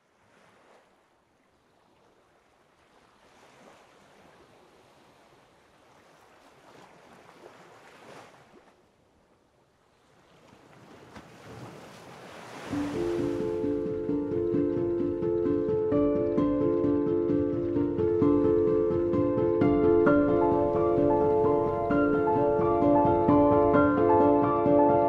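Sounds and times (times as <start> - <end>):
faint ocean surf: 0.0 - 25.0.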